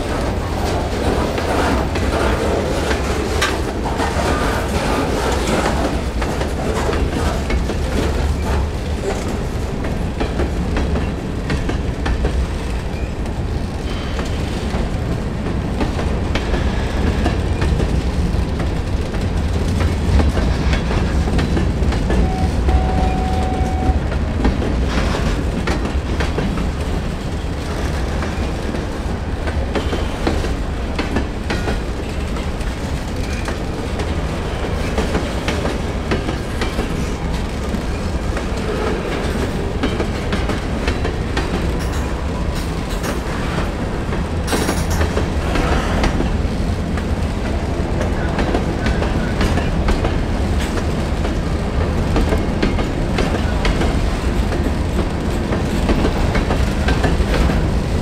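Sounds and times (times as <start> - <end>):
train rumbling past: 0.0 - 58.0
wheels clicking over rail joints: 0.0 - 58.0.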